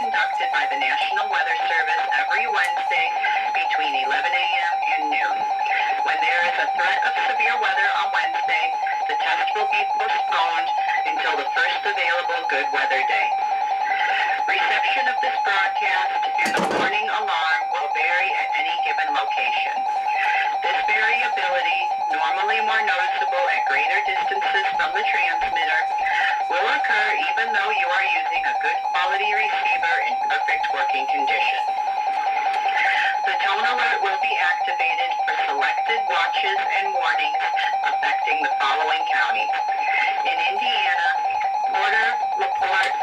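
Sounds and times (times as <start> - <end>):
muffled speech: 0.0 - 43.0.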